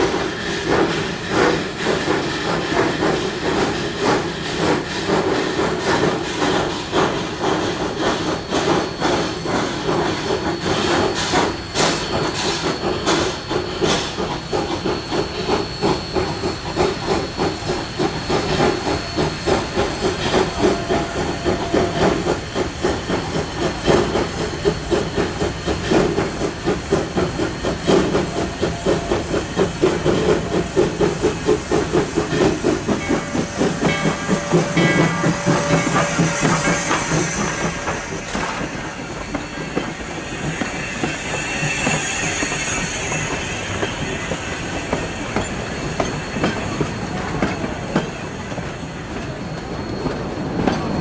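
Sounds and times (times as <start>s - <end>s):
fast pulsing locomotive chuffing: 0.0s - 50.6s
steam hissing: 0.0s - 51.0s.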